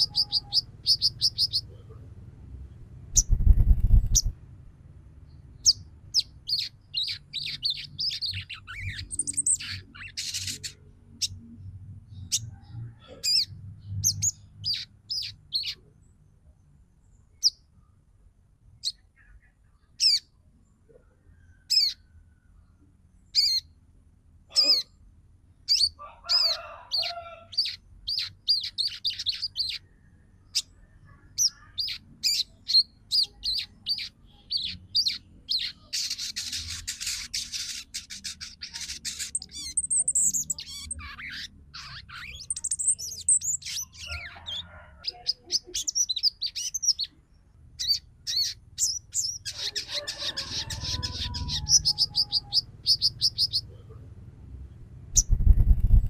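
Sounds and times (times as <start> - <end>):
bird chirping and twittering: 0.0 - 4.4, 5.2 - 17.7, 18.8 - 20.3, 21.4 - 22.2, 23.2 - 23.8, 25.5 - 54.0, 54.7 - 56.0.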